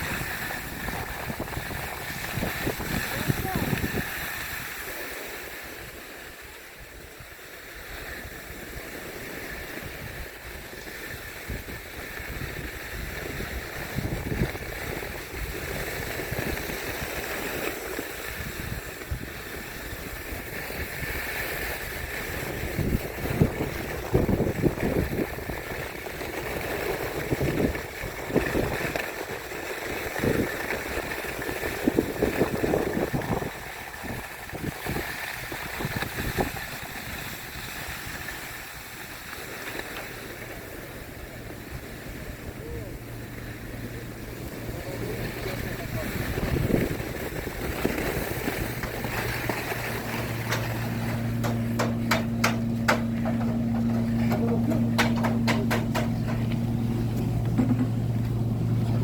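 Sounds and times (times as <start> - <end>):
wind buffeting microphone: 0.0 - 9.0, 9.6 - 39.4, 41.0 - 59.0
snow hissing under skis: 0.0 - 51.4.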